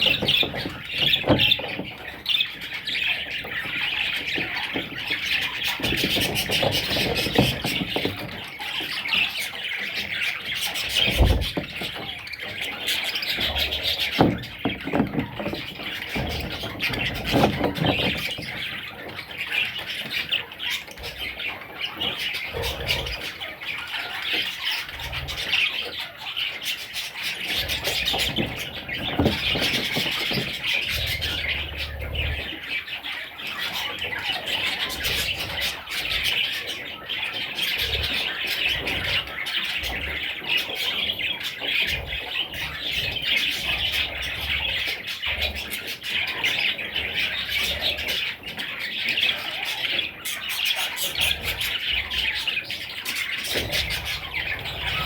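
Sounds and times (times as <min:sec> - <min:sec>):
budgerigars chattering and warbling: 0:00.0 - 0:55.0.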